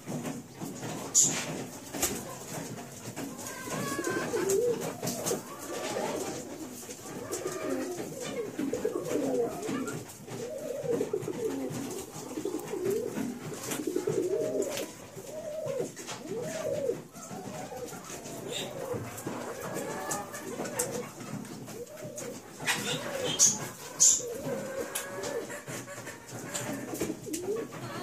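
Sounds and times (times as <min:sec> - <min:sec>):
pigeon cooing: 0:00.0 - 0:28.0.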